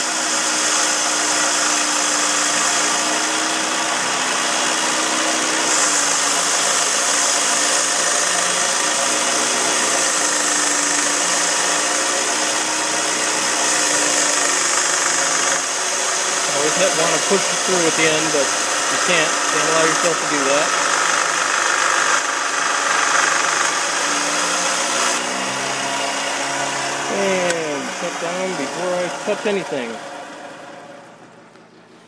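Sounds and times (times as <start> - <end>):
bandsaw cutting pipe: 0.0 - 31.2.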